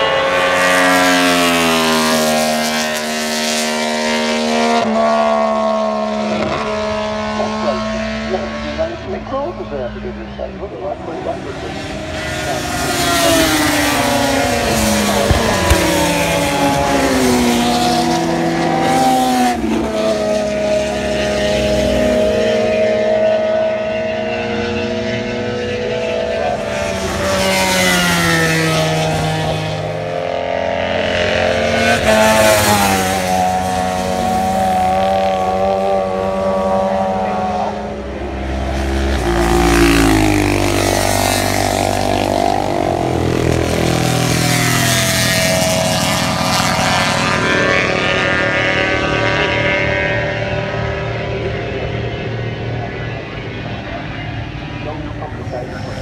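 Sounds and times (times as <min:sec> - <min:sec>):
racing motorcycles passing at speed: 0:00.0 - 0:56.0.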